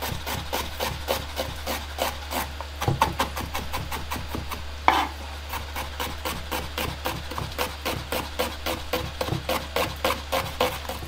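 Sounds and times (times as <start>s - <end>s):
knife slicing onion on board: 0.0s - 11.0s.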